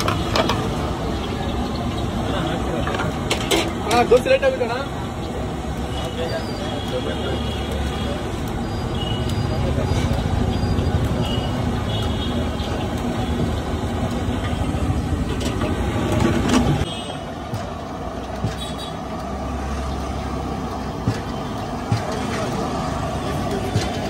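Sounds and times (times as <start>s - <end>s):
street and cart rumble: 0.0s - 24.0s.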